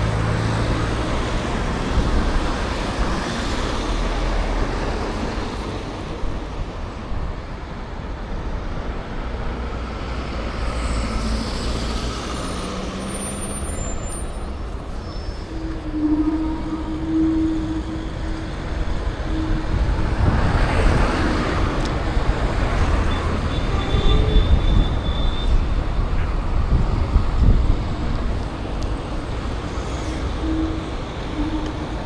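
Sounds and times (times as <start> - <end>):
rumble of road traffic: 0.0 - 32.0.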